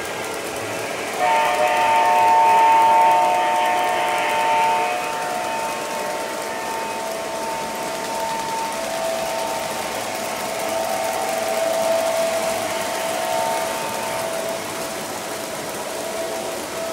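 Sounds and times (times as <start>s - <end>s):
model train motors whirring: 0.0s - 16.9s
model train whine: 0.0s - 16.9s.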